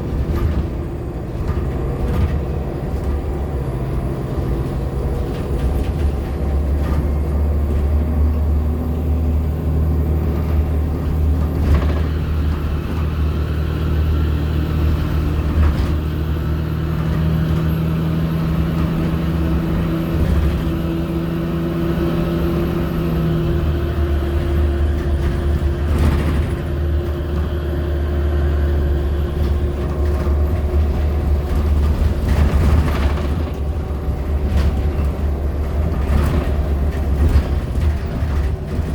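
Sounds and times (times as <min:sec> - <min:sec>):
bus engine drone: 0:00.0 - 0:38.9.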